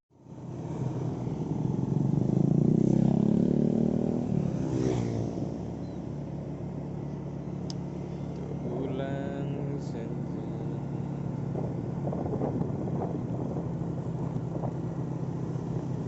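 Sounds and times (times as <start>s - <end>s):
vehicle engine running: 0.1s - 16.0s.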